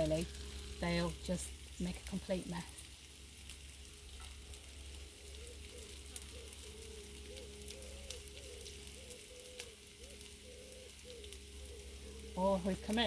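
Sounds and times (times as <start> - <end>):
fritters sizzling in a pan: 0.0 - 13.0
low steady hum: 0.0 - 13.0.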